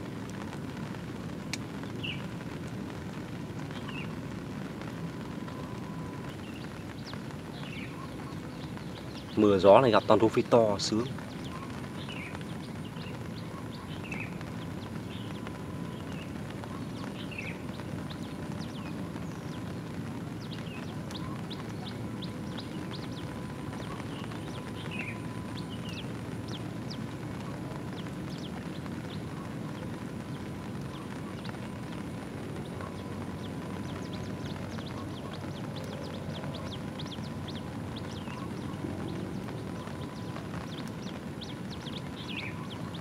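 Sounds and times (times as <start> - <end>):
rain patter: 0.0 - 43.0
small birds chirping: 1.5 - 4.2, 5.1 - 43.0.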